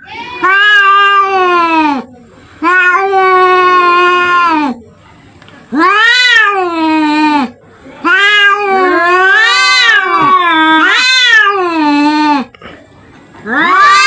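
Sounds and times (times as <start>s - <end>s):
cats yowling in a fight: 0.0s - 4.8s, 5.7s - 12.5s, 13.4s - 14.0s.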